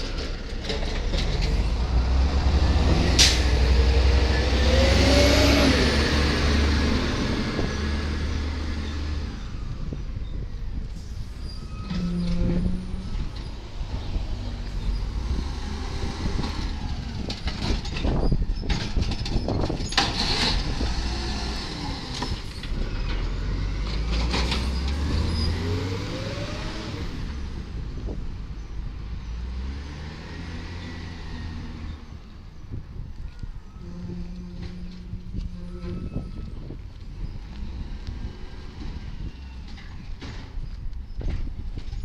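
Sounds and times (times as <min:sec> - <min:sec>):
garbage truck diesel engine: 0:00.0 - 0:42.0.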